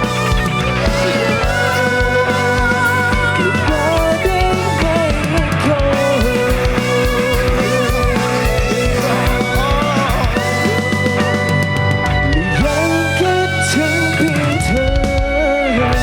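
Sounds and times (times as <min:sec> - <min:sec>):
rock guitar lead: 0:00.0 - 0:16.0
steady drum beat: 0:00.0 - 0:16.0.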